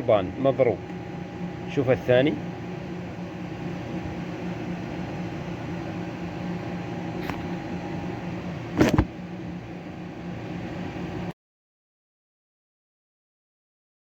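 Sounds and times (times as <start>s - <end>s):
fan mechanical hum: 0.0s - 11.4s.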